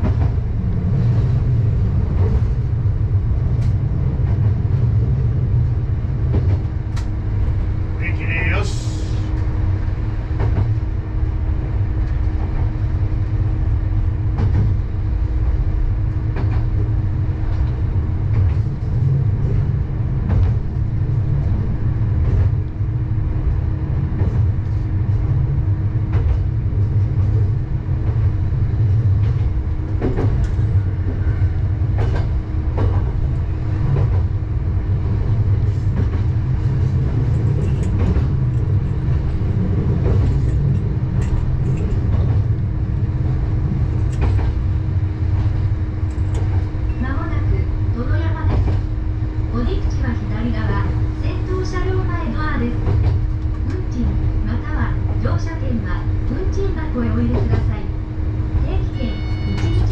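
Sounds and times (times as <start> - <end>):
diesel engine rumble: 0.0 - 59.1.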